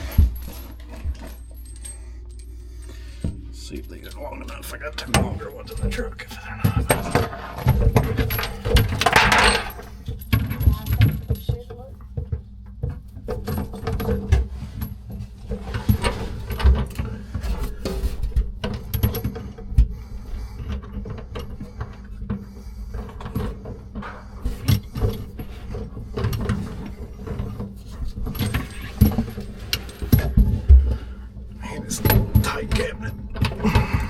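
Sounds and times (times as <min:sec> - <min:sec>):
tools knocking and rattling in cabinet: 0:00.0 - 0:01.8, 0:03.1 - 0:20.0, 0:20.6 - 0:34.0.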